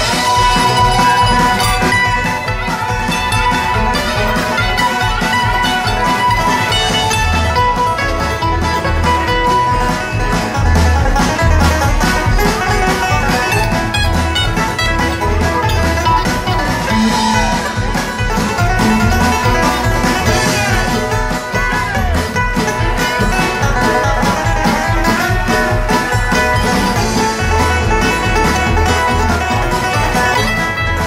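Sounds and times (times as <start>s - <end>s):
live bluegrass band playing: 0.0s - 31.0s.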